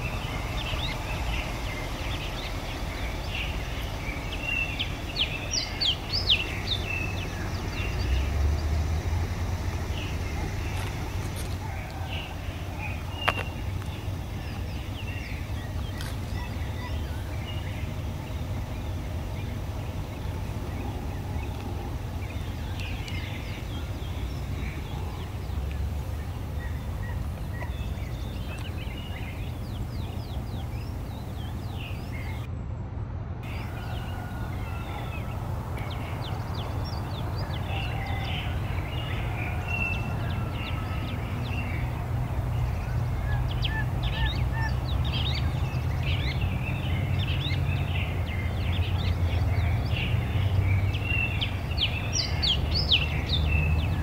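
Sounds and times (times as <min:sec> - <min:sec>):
small birds chirping: 0:00.0 - 0:32.5, 0:33.5 - 0:54.0.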